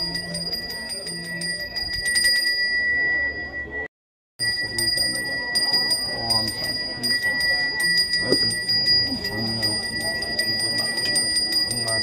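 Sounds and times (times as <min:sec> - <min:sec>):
hand bell ringing: 0:00.0 - 0:03.8, 0:04.4 - 0:12.0.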